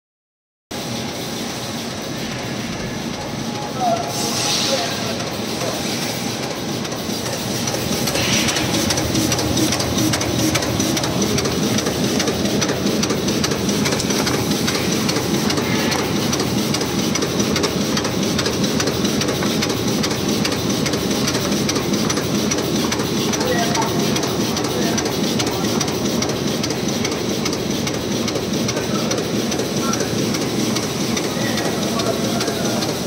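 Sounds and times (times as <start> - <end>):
die-cutting machine clattering: 6.4 - 33.0.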